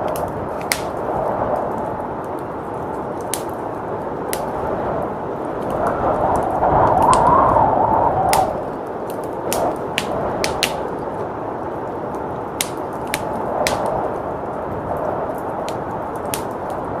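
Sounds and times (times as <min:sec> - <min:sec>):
blizzard wind rushing: 0:00.0 - 0:17.0
wood fire crackling and popping: 0:00.0 - 0:17.0.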